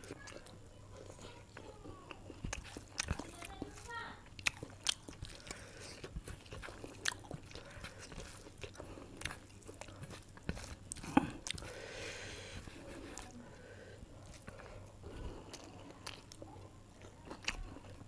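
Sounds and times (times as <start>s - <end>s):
close-up chewing food: 0.0s - 18.0s.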